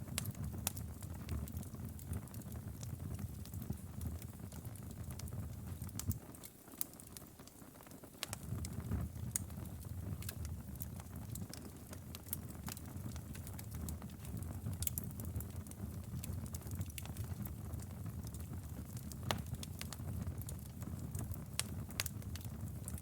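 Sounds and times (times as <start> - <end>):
low rumble of flames: 0.0 - 6.5, 8.2 - 23.0
wood fire crackling and popping: 0.0 - 23.0.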